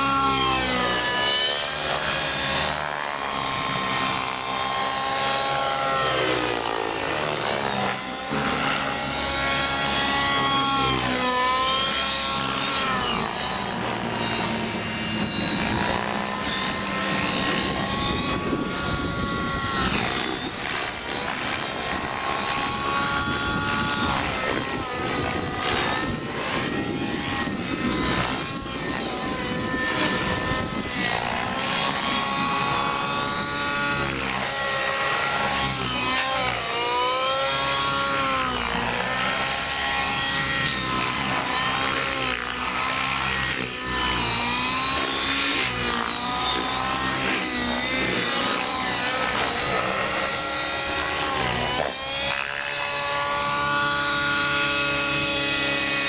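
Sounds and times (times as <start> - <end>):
model helicopter engine whining: 0.0 - 56.0.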